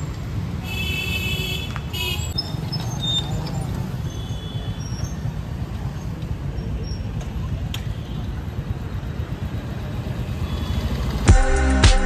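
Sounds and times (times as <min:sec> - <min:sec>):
low rumble of passing vehicles: 0:00.0 - 0:11.3.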